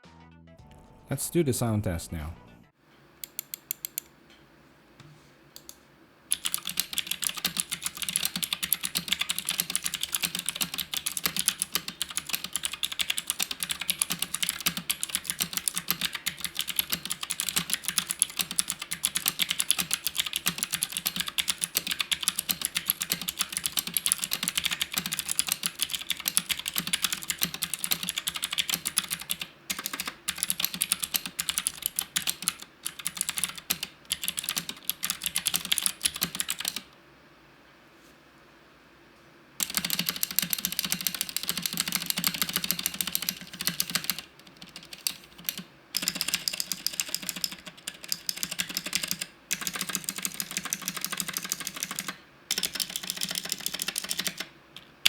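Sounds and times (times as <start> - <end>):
mechanical keyboard typing: 3.2 - 4.1, 5.6 - 37.0, 39.6 - 55.0.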